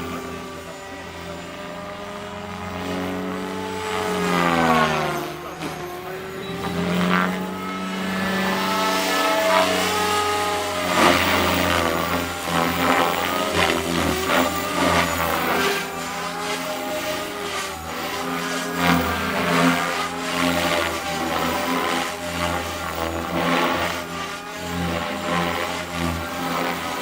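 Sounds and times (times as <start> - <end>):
rc helicopter motor and rotor whine: 0.0 - 27.0.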